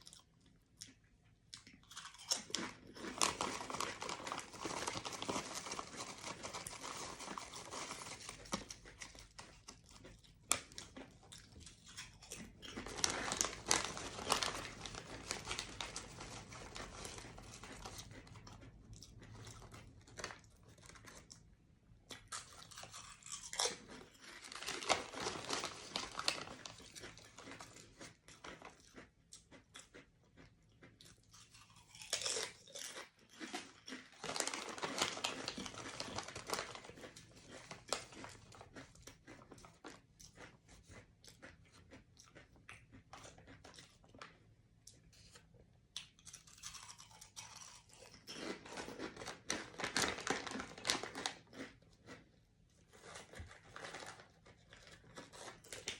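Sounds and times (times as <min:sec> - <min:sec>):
potato chips crunching: 0:00.0 - 0:21.5, 0:22.1 - 0:55.9
plastic snack bag crinkling: 0:01.8 - 0:21.4, 0:22.2 - 0:30.0, 0:31.2 - 0:41.6, 0:46.1 - 0:52.2, 0:52.8 - 0:55.9.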